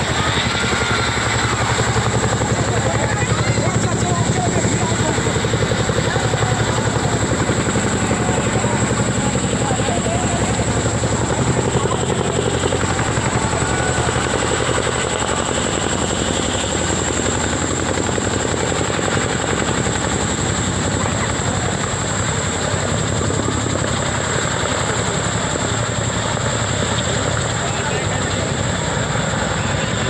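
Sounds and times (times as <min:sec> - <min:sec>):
helicopter high whine: 0:00.0 - 0:30.0
helicopter rotor beat: 0:00.0 - 0:30.0.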